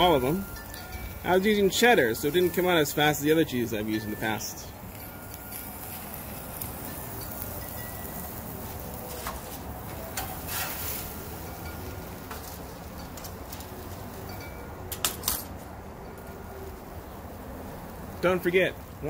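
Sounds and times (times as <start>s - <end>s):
metal tongs clinking on grill: 0.0s - 16.4s.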